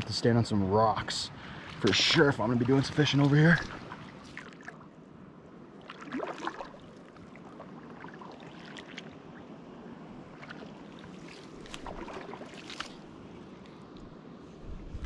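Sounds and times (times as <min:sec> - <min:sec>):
water sloshing and splashing: 0:01.4 - 0:15.0.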